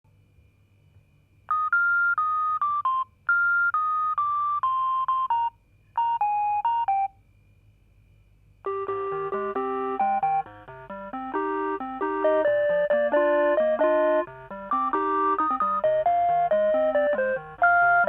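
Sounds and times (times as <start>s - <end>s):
robot vacuum beeping melody: 1.5s - 7.1s, 8.7s - 18.0s.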